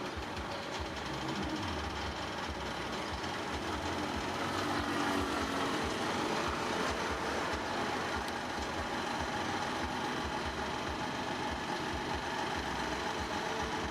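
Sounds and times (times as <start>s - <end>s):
heavy machinery diesel engine running: 0.0s - 13.9s.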